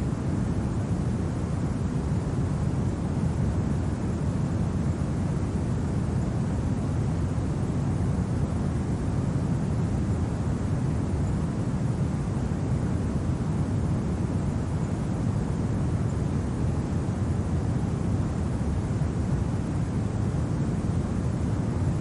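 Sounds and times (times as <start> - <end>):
low rumble of wind: 0.0 - 22.0.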